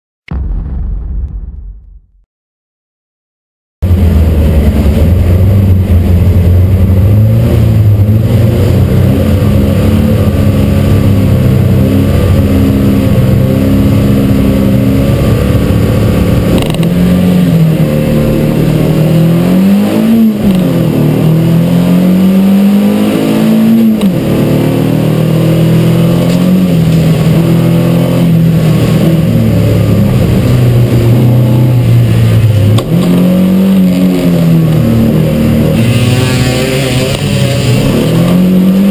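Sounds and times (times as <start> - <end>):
car engine heard from inside cabin: 3.8 - 38.9.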